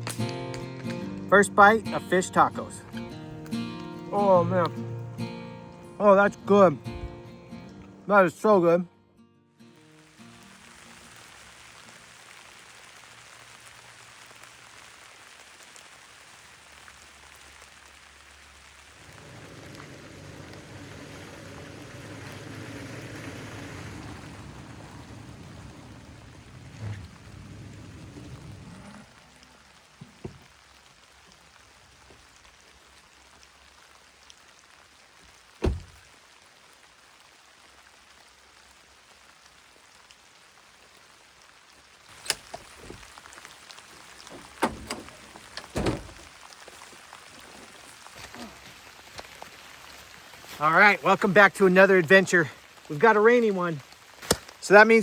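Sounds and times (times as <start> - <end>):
steady rain falling: 0.0 - 8.8, 9.6 - 55.0.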